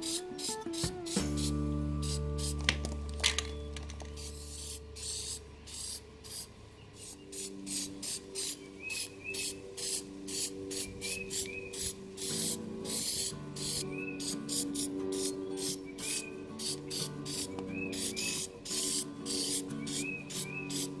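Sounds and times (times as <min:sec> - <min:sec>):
spray paint can hissing: 0:00.0 - 0:21.0.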